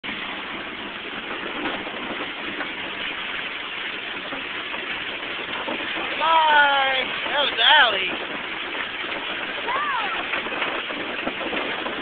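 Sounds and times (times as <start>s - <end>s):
ride car engine and road noise: 0.0s - 12.0s.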